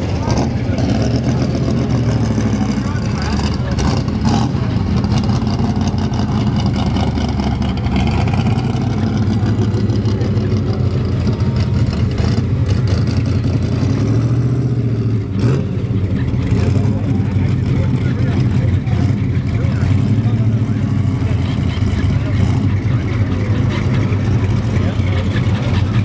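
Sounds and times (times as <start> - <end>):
car engines driving slowly past: 0.0 - 26.0.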